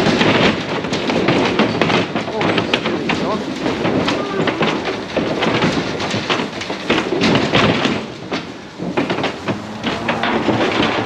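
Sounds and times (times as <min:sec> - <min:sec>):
hooves clattering on metal: 0:00.0 - 0:11.0
metal gates knocking: 0:00.0 - 0:11.0.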